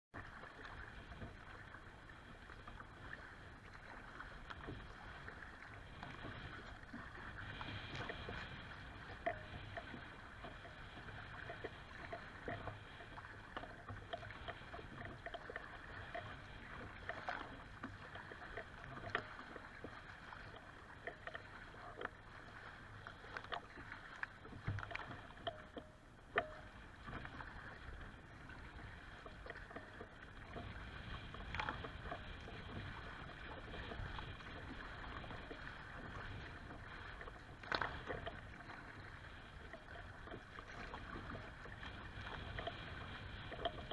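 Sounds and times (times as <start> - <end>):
water splashing against kayak hull: 0.1 - 43.9
steady rush of water: 0.2 - 43.9.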